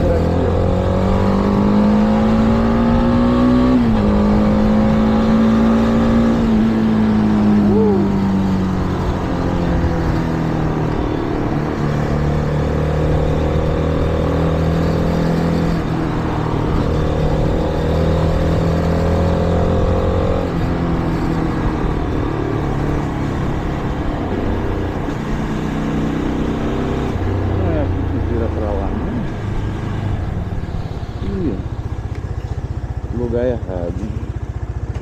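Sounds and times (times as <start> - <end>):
rushing wind: 0.0 - 33.1
motorcycle engine running: 0.0 - 35.0.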